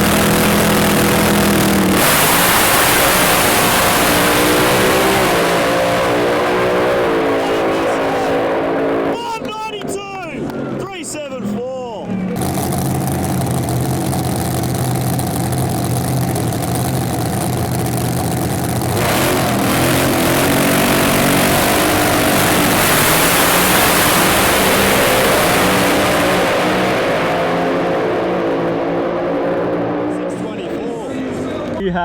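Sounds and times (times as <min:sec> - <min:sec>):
drag car engine revving: 0:00.0 - 0:31.8.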